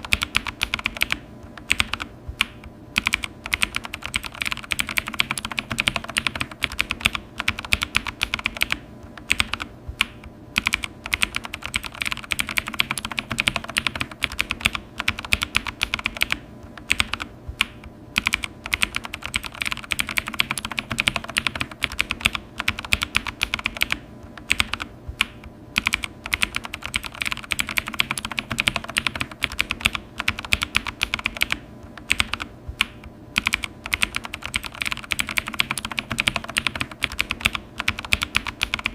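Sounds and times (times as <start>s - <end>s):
keyboard key clicks: 0.0s - 38.9s.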